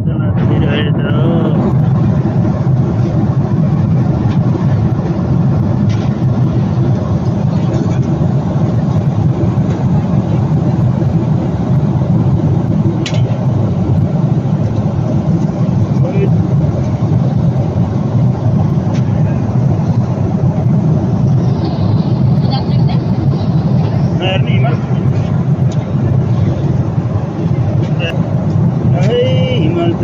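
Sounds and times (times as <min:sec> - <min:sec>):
airliner cabin engine rush: 0:00.0 - 0:30.0.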